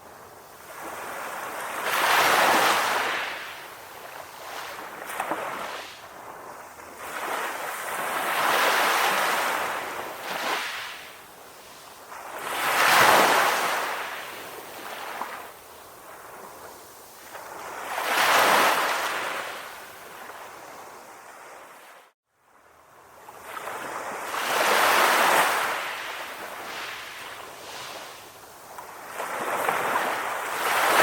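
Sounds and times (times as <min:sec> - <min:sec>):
ocean waves washing in: 0:00.0 - 0:31.0.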